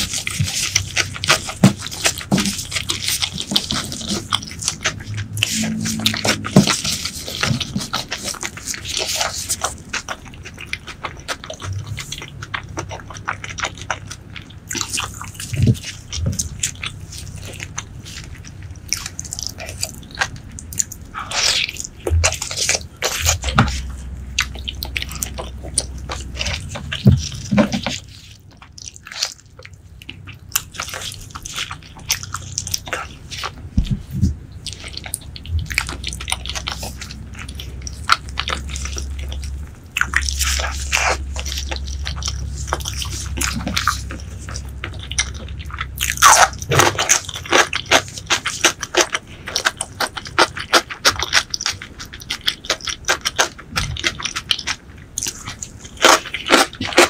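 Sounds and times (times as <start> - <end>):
chewing and biting meat: 0.0 - 57.0.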